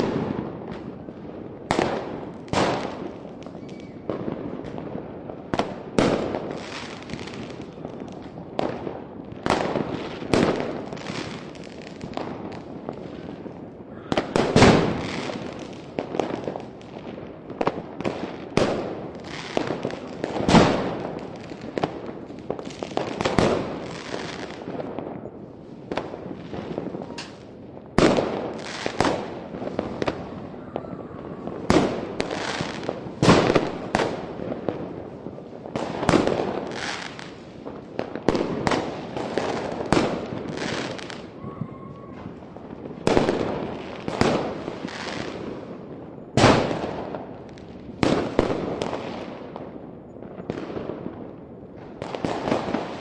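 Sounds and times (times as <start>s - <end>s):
fireworks bursting with crackles: 0.0s - 53.0s.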